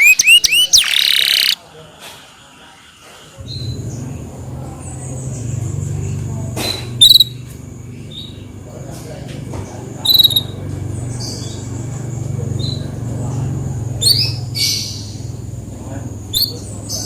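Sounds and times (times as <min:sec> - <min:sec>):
canary chirps: 0:00.0 - 0:01.6, 0:03.4 - 0:08.6, 0:09.8 - 0:17.0.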